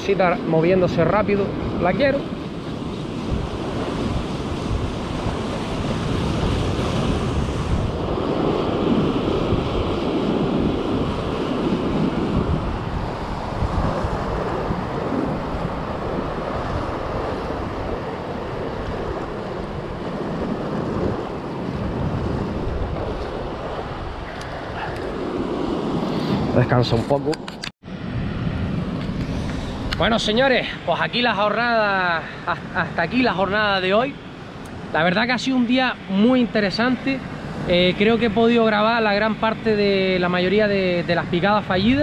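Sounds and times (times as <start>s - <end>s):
sea surf breaking: 0.0s - 42.0s
wind buffeting microphone: 0.0s - 42.0s.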